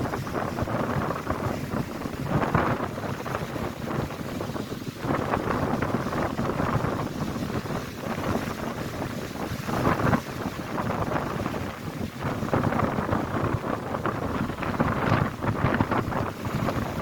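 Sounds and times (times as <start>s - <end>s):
strong wind buffeting microphone: 0.0s - 17.0s
waves crashing against shore: 0.0s - 17.0s.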